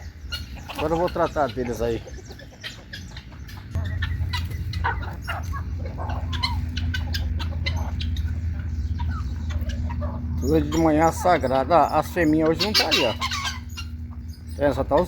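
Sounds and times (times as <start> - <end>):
chickens clucking: 0.0 - 15.0
low steady rumble: 0.0 - 15.0.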